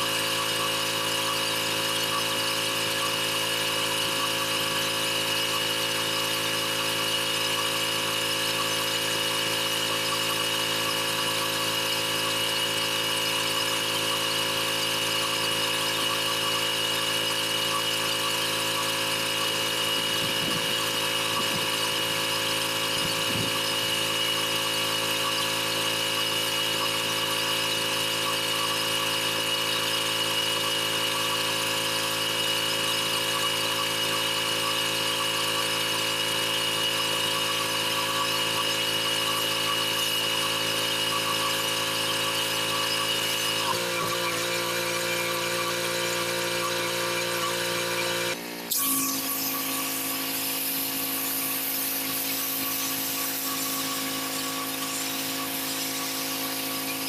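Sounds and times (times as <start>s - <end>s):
pressure washer running: 0.0s - 57.0s.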